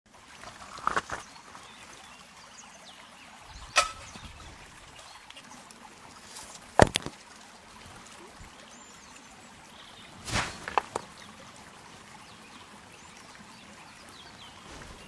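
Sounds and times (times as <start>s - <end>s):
water trickling: 0.1s - 15.0s.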